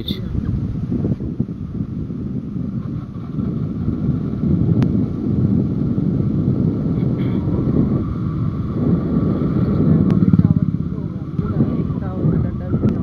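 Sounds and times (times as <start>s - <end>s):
motorcycle engine running: 0.0s - 13.0s
wind rumble: 0.0s - 13.0s.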